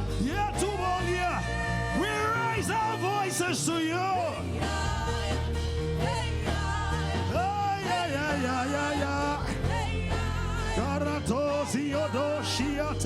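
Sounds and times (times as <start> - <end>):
held chords and bass accompaniment: 0.0 - 13.0
person singing gospel: 0.0 - 13.0.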